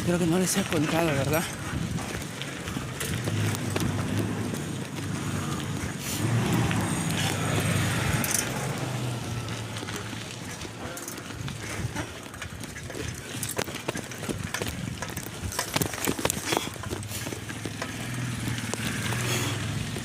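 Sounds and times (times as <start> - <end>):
bicycle frame clicking and knocking: 0.4 - 5.8, 7.1 - 20.0.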